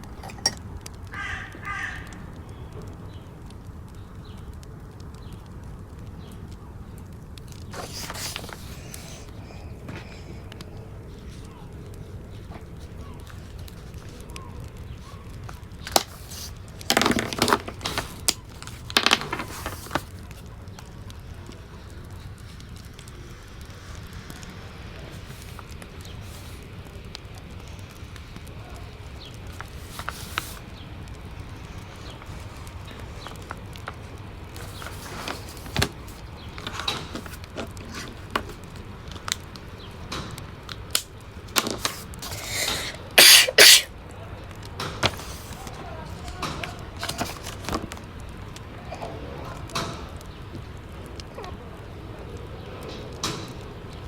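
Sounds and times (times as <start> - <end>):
fireplace crackling and popping: 0.0 - 54.0.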